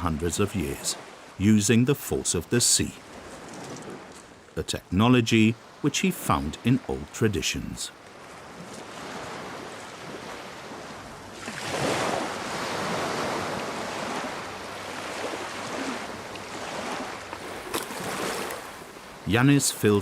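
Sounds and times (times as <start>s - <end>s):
sea wave breaking: 0.0s - 20.0s.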